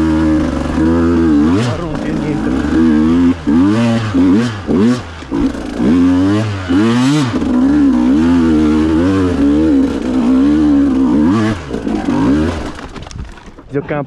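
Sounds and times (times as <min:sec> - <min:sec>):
two-stroke motorcycle engine revving: 0:00.0 - 0:13.6.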